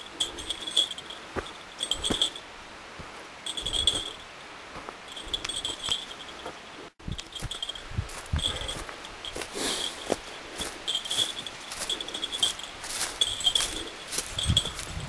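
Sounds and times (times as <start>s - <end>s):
high thin jingle: 0.0s - 2.5s, 3.4s - 4.4s, 5.0s - 15.0s
footsteps on leafy trail: 0.0s - 15.0s.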